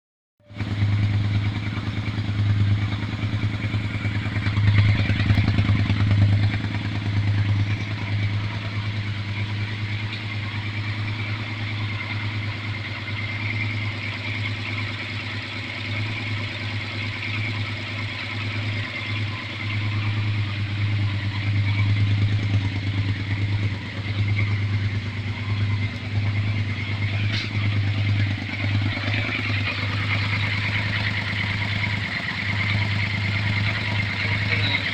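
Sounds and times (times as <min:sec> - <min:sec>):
motorcycle engine running: 0:00.4 - 0:34.9.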